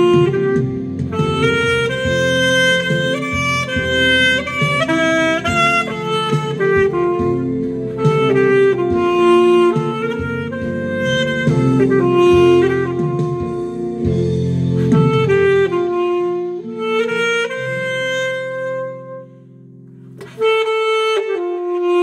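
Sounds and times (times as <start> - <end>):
backing track: 0.0 - 22.0
saxophone melody: 0.0 - 22.0.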